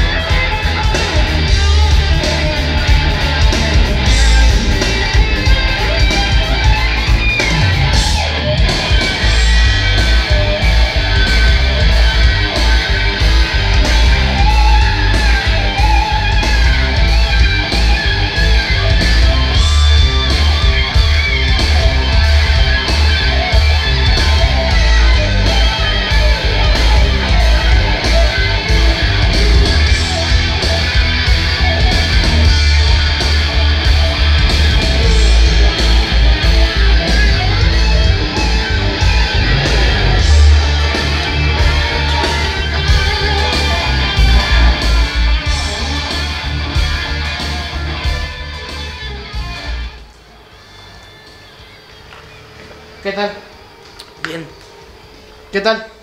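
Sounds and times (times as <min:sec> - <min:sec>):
rock music over loudspeakers: 0:00.0 - 0:55.7.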